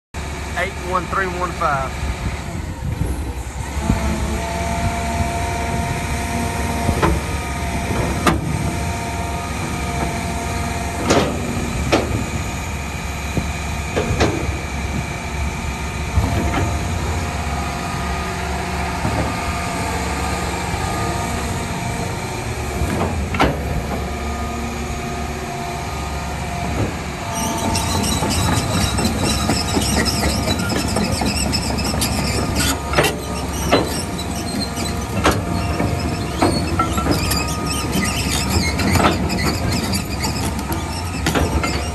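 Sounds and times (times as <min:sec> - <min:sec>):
excavator diesel engine idling: 0:00.2 - 0:41.9.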